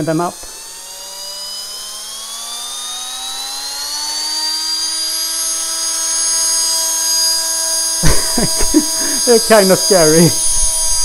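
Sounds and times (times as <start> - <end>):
electric motor whine rising: 0.0 - 11.0.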